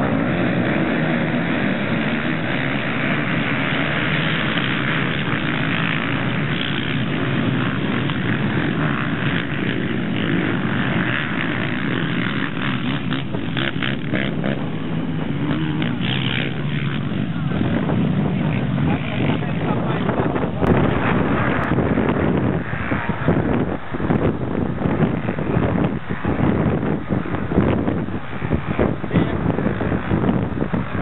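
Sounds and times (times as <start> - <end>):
quad engines revving: 0.0 - 31.0.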